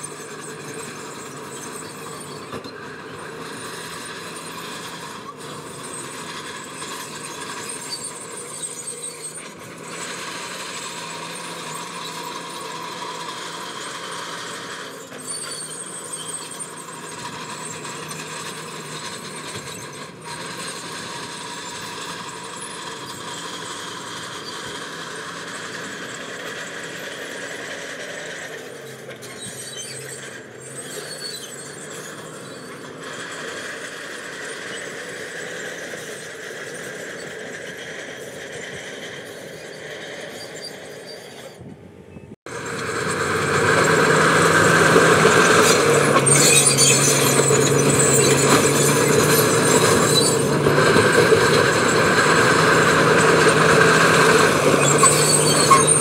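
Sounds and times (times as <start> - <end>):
heavy machinery engine running: 0.0 - 56.0
high metallic squeal: 0.0 - 56.0.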